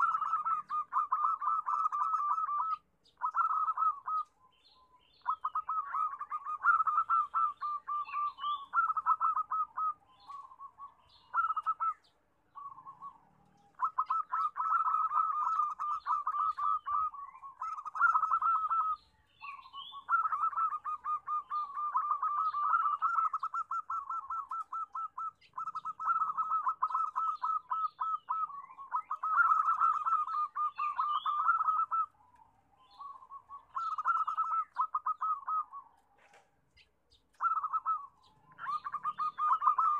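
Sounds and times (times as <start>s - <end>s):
dove cooing in staccato notes: 0.0s - 4.4s, 5.1s - 39.9s.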